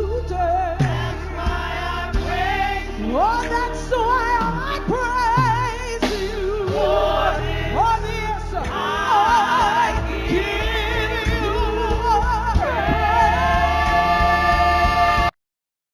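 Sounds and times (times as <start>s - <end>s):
bass-heavy band: 0.0s - 15.3s.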